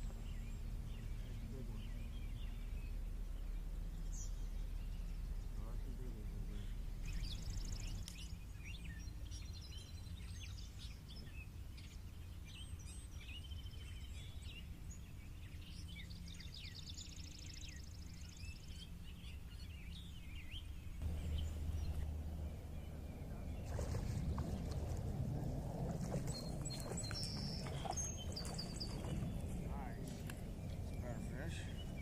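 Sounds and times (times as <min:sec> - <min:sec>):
birds singing and chirping: 0:00.0 - 0:32.0
low steady rumble: 0:00.0 - 0:32.0.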